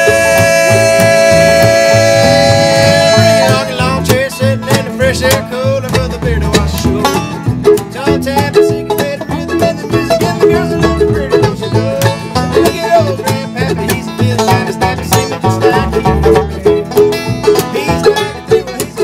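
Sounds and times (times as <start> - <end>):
acoustic guitar: 0.0 - 19.0
banjo: 0.0 - 19.0
plucked upright bass: 0.0 - 19.0.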